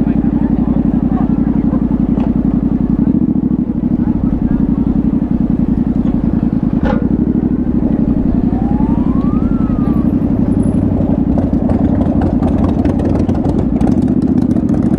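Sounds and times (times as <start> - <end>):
motorcycle engine running steadily: 0.0 - 14.9.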